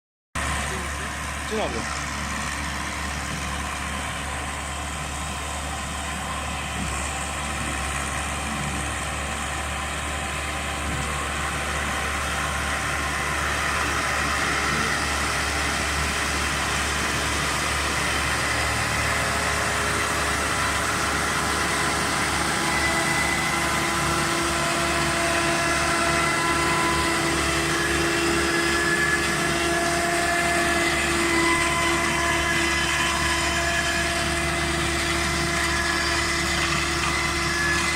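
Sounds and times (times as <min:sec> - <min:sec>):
steady whining tones: 0:00.4 - 0:37.9
tractor diesel engine running: 0:00.4 - 0:37.9.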